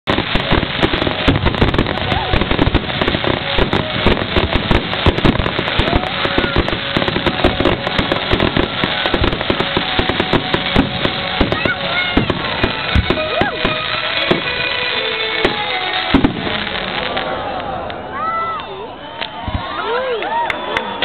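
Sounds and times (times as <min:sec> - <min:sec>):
firework shells bursting: 0:00.1 - 0:17.2.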